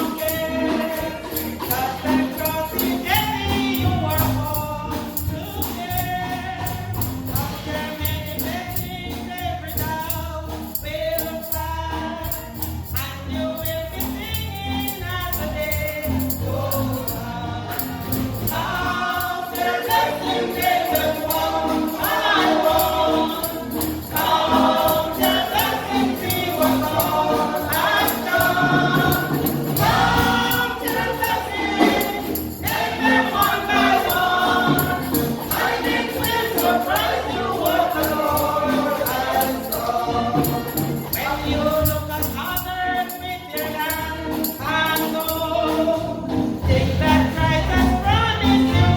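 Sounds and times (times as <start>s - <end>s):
bass line: 0.0s - 48.9s
choir singing gospel: 0.0s - 48.9s
tambourine shaken in a beat: 0.0s - 48.9s.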